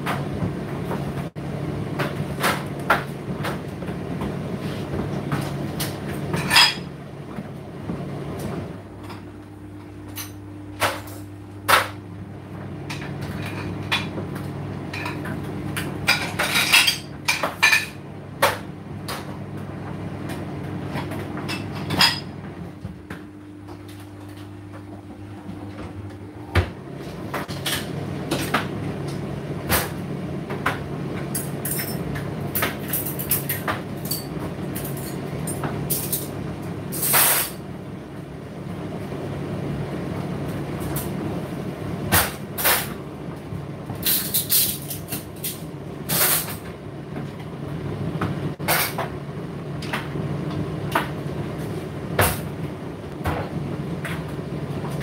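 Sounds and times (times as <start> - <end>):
tumble dryer motor hum: 0.0 - 55.0.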